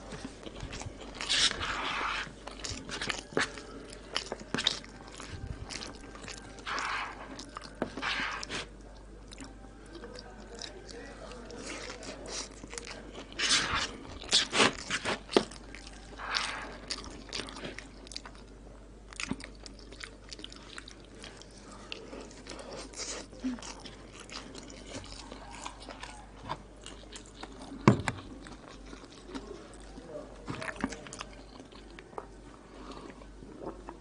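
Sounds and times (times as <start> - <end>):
crunchy wet chewing: 0.0 - 34.0.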